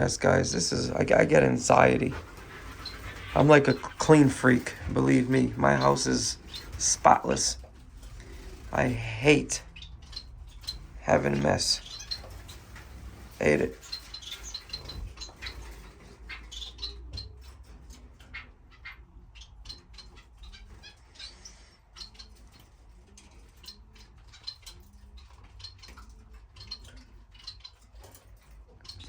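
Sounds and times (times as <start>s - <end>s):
finches chirping: 0.0s - 29.0s.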